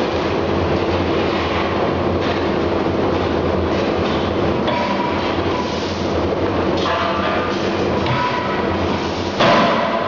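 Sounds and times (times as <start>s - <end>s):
forge machinery droning: 0.0s - 10.0s.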